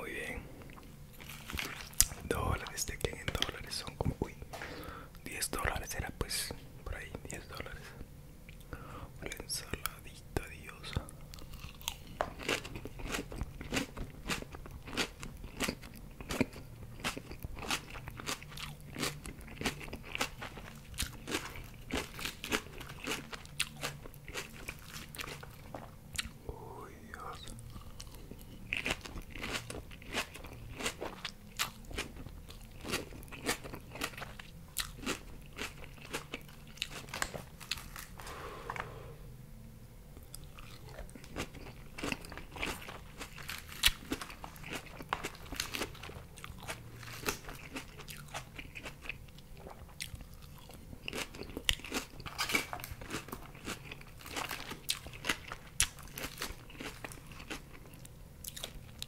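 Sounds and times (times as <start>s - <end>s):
person chewing crisp salad: 0.2s - 5.0s, 10.6s - 39.0s, 40.2s - 59.0s.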